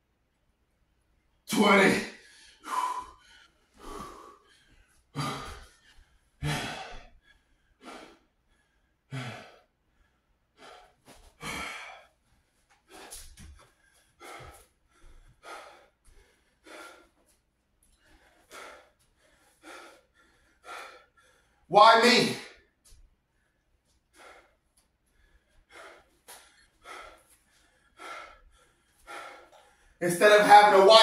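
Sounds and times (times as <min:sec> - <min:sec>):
man breathing heavily: 0:02.0 - 0:31.0.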